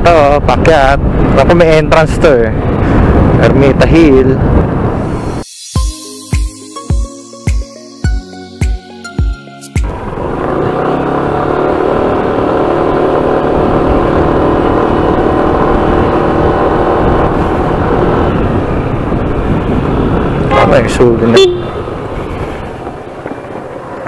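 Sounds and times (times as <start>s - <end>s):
wind rush on microphone: 0.0s - 5.5s, 9.8s - 24.0s.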